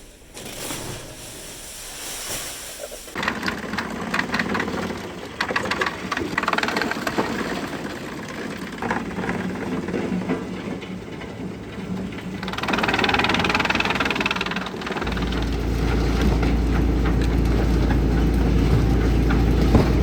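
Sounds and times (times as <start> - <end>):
wood chipper running: 3.2 - 20.0.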